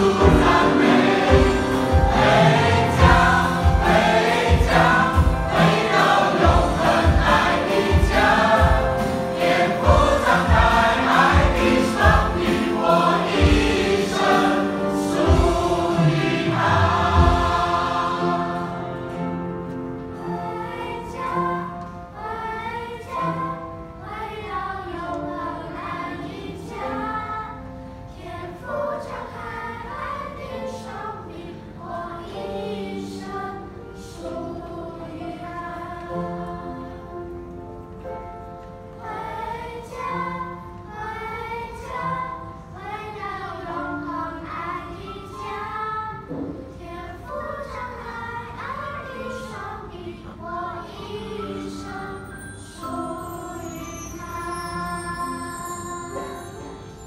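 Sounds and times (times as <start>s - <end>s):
choir singing a hymn: 0.0s - 57.0s
musical accompaniment: 0.0s - 57.0s.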